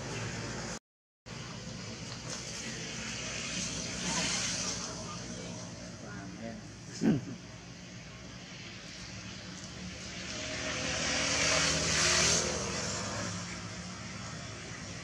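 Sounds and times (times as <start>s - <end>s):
passing engine: 0.0s - 15.0s.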